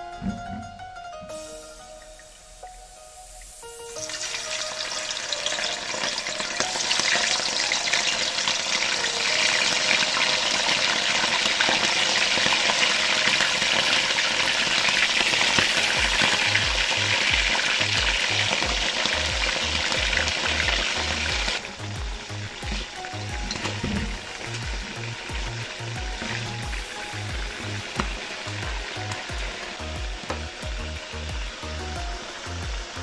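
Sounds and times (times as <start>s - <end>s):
meat sizzling in hot oil: 1.3s - 33.0s.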